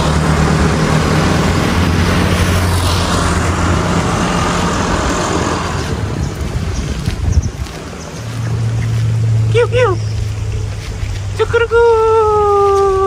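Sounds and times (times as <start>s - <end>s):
road and wind noise: 0.0s - 13.0s
vehicle engine humming: 0.0s - 13.0s.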